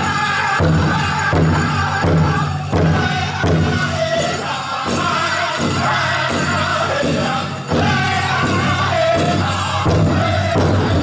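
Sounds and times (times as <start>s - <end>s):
big drum beat: 0.0s - 11.0s
group singing in unison: 0.0s - 11.0s
leg bells jingling: 0.0s - 11.0s.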